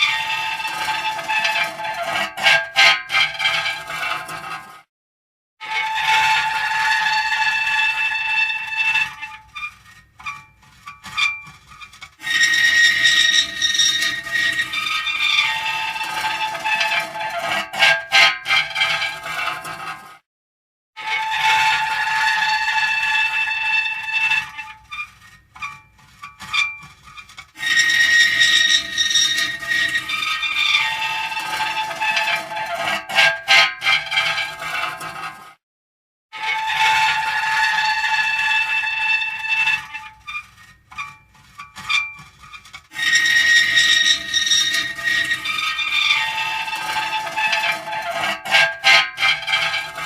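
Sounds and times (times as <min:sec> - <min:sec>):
metal creaking squeal: 0:00.0 - 0:04.8, 0:05.6 - 0:20.2, 0:21.0 - 0:35.5, 0:36.4 - 0:50.0.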